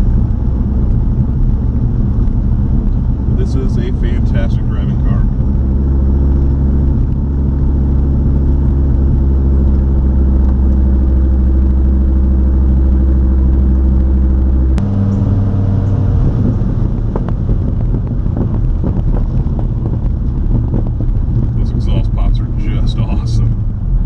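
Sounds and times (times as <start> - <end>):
car engine cruising: 0.0 - 24.0.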